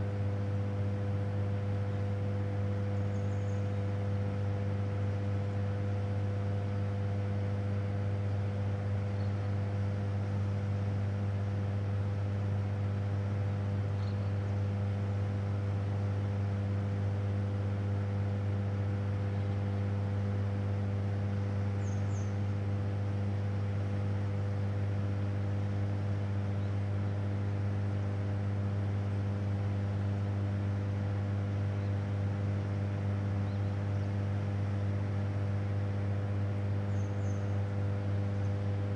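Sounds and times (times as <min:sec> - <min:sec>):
deep electrical hum: 0:00.0 - 0:38.9.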